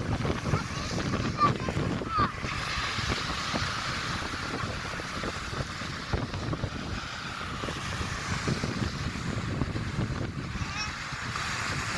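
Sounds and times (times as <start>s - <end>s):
sea rushing: 0.0s - 11.9s
wind buffeting microphone: 0.0s - 11.9s.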